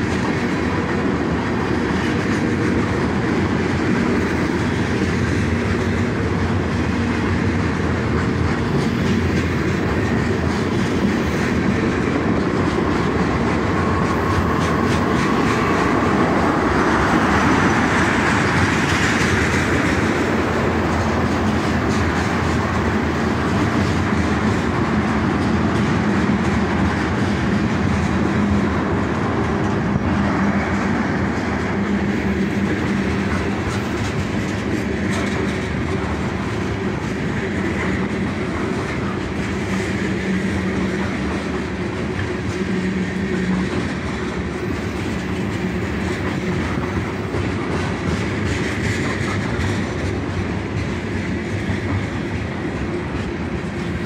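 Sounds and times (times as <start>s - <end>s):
freight cars rumbling on rail: 0.0s - 54.0s
wheels clicking over rail joints: 0.0s - 54.0s.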